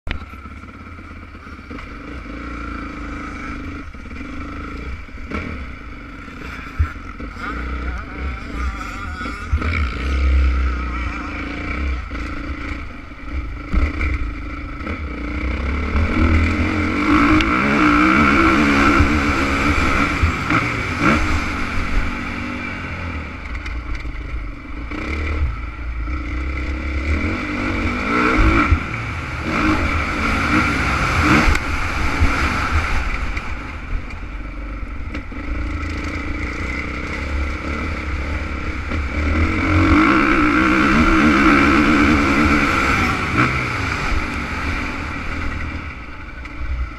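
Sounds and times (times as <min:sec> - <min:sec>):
motorbike engine revving: 0:00.1 - 0:46.9.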